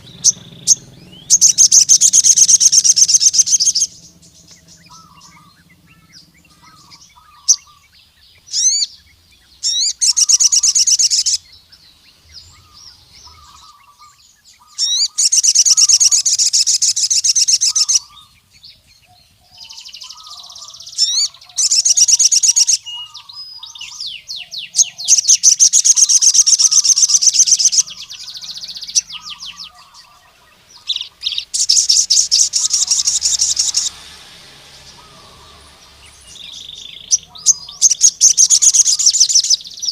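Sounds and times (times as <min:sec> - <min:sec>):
bird singing high trills: 0:00.0 - 0:39.9
faint lower bird chirps: 0:00.0 - 0:39.9
sharp rising bird notes: 0:00.0 - 0:39.9.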